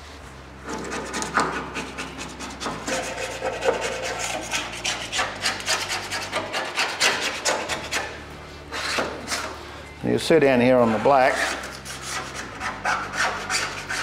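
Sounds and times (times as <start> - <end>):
rag rubbing on metal: 0.6 - 9.6, 10.6 - 14.0.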